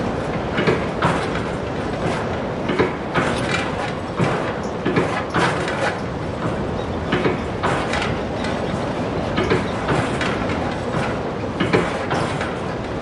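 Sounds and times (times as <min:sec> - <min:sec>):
steady rushing noise: 0:00.0 - 0:13.0
windmill parts clanking and creaking: 0:00.0 - 0:13.0.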